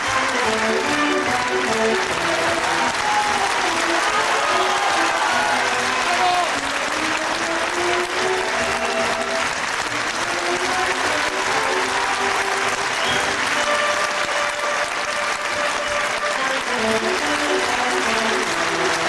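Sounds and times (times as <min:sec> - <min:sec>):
audience applauding: 0:00.0 - 0:19.0
orchestra playing sustained notes: 0:00.0 - 0:19.0.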